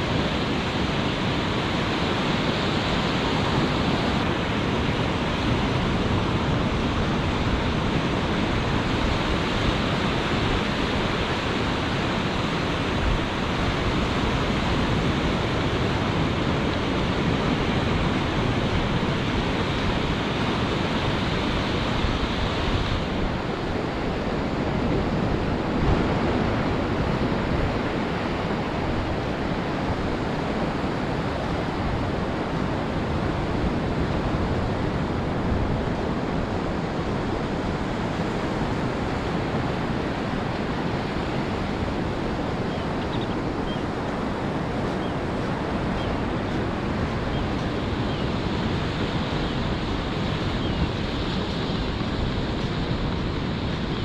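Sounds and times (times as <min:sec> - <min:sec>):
ocean surf washing ashore: 0:00.0 - 0:54.0
wind on microphone: 0:00.0 - 0:54.0.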